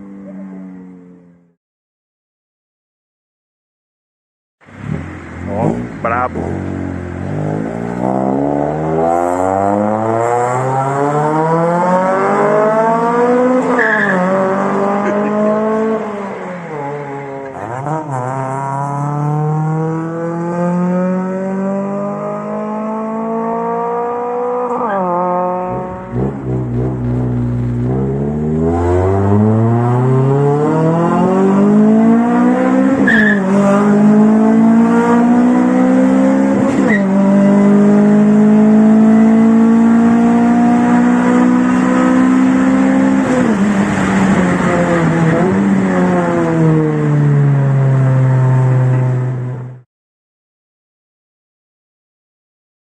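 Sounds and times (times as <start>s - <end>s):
car engine accelerating through gears: 4.7s - 49.8s.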